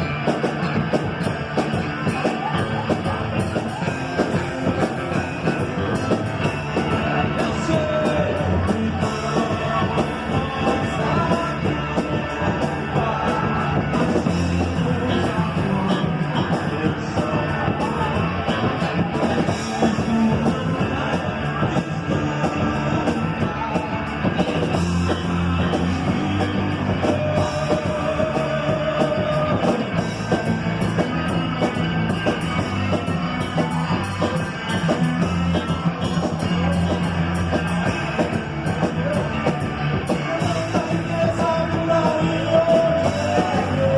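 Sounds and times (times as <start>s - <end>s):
rock song through sound system: 0.0s - 43.9s.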